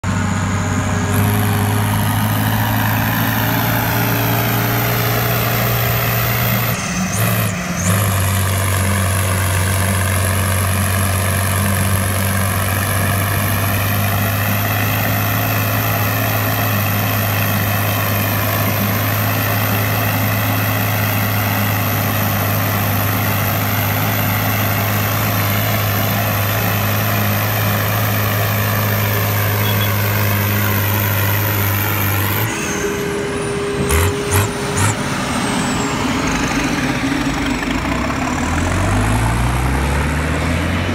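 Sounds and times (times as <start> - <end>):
heavy engine drone with whine: 0.0 - 40.9.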